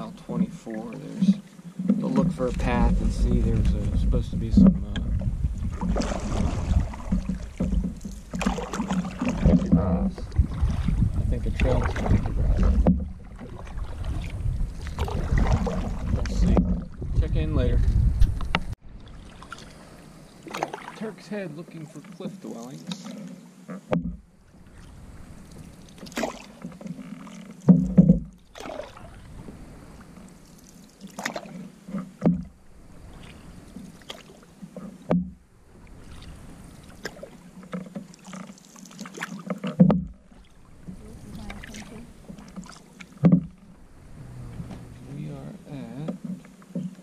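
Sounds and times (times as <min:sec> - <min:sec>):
paddle splash or knock: 0:00.0 - 0:47.0
paddles dipping through water: 0:00.0 - 0:47.0
water washing along hull: 0:00.0 - 0:47.0.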